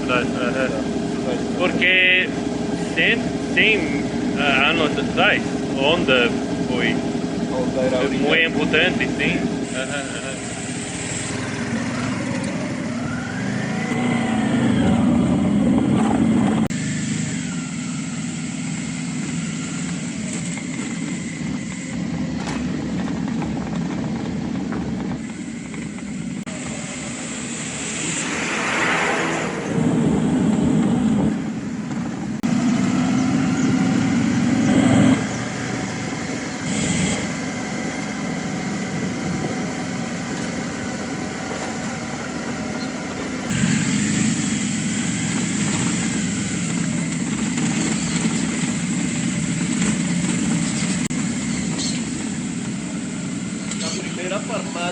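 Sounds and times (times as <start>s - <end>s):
motorcycle engine running: 0.0s - 54.9s
road and traffic noise: 0.0s - 54.9s.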